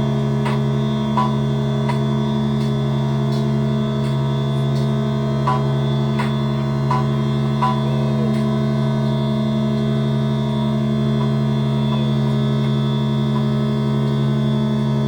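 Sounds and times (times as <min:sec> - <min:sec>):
synthesizer drone: 0:00.0 - 0:15.0.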